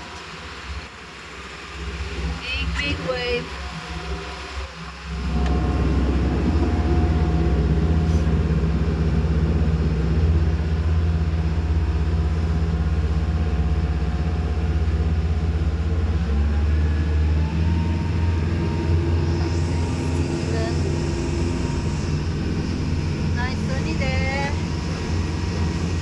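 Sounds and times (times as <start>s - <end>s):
boat engine drone: 0.0s - 26.0s
water and hull noise: 0.0s - 26.0s.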